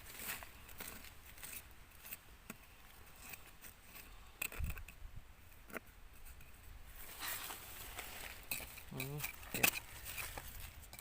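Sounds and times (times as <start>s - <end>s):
hands scraping dry soil and leaves: 0.0s - 11.0s.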